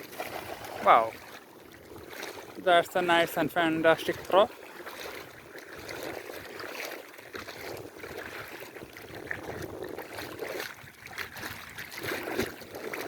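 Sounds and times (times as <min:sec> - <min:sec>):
soft water splashes: 0:00.0 - 0:13.0
water lapping and trickling: 0:00.0 - 0:13.0.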